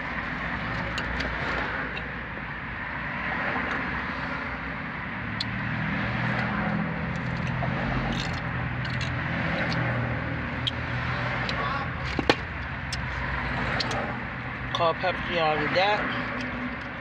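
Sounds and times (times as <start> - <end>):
car engine and road hum: 0.0 - 17.0.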